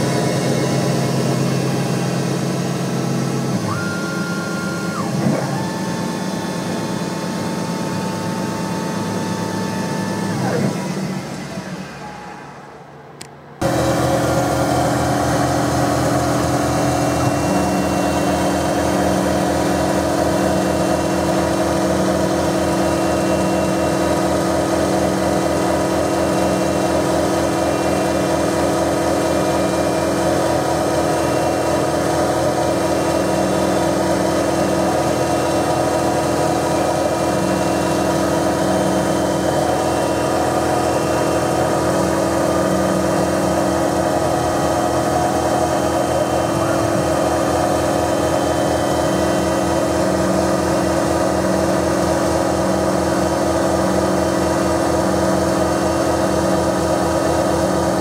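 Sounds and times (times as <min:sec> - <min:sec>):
milling machine running: 0:00.0 - 0:13.0, 0:13.6 - 0:58.0.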